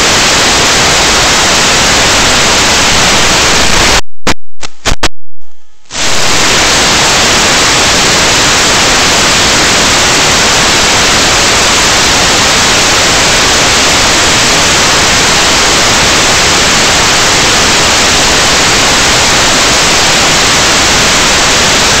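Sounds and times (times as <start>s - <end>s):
loud static hiss: 0.0s - 22.0s.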